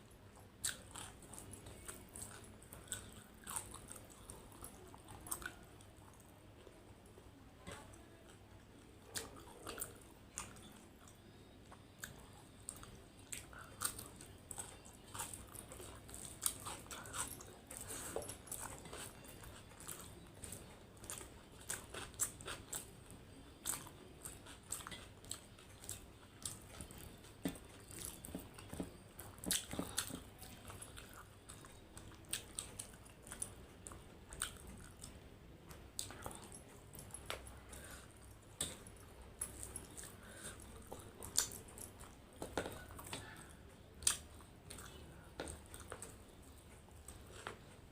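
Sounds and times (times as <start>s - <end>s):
person chewing food: 0.3s - 6.8s, 7.6s - 47.9s.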